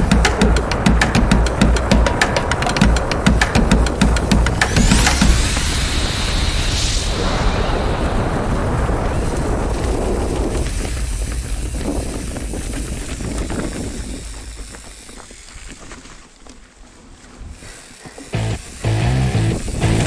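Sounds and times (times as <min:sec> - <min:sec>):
mountain bike rattling: 0:00.0 - 0:05.4, 0:08.5 - 0:20.0
wind on microphone: 0:00.0 - 0:15.9, 0:17.4 - 0:20.0.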